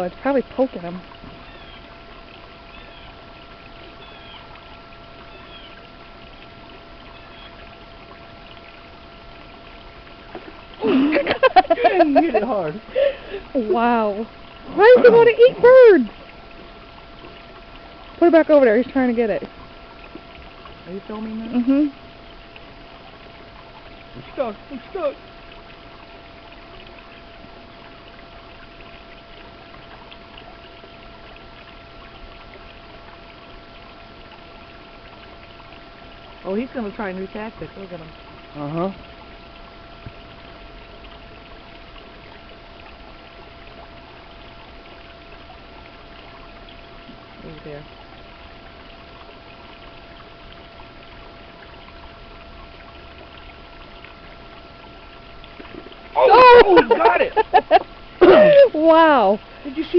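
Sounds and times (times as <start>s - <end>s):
faint steady tone: 0.0s - 59.9s
running water trickling: 0.0s - 59.9s.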